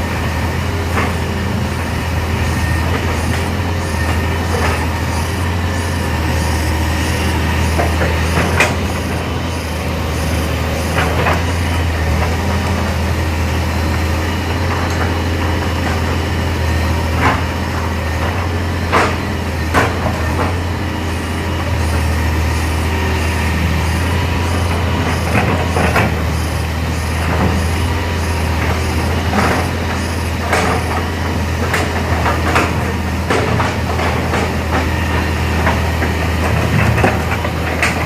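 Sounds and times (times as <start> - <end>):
excavator diesel engine droning: 0.0 - 38.0.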